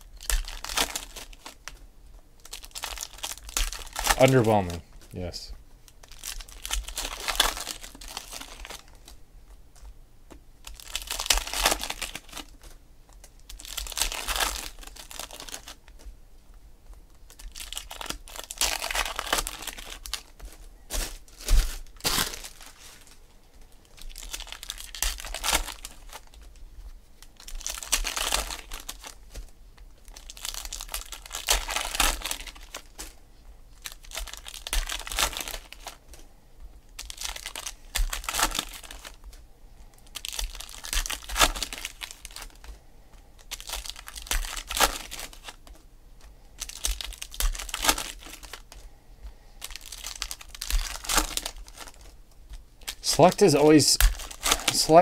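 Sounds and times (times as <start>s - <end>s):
foil wrappers tearing and crinkling: 0.0s - 1.8s, 2.4s - 4.8s, 6.0s - 9.2s, 10.6s - 16.1s, 17.2s - 23.2s, 23.8s - 26.6s, 27.2s - 36.2s, 36.9s - 39.4s, 40.0s - 42.8s, 43.4s - 48.8s, 49.6s - 55.0s.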